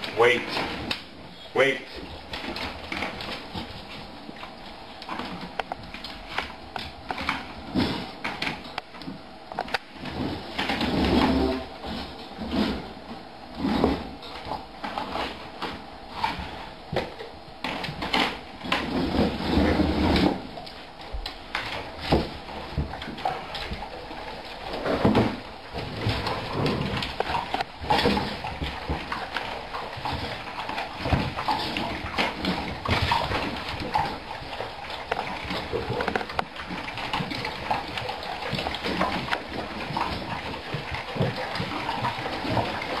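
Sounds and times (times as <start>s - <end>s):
dogs chewing and slurping: 1.8s - 43.0s.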